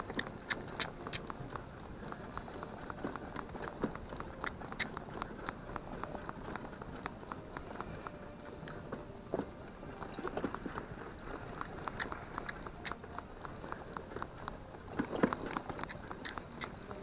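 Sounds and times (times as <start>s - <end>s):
pony hooves trotting: 0.0s - 17.0s.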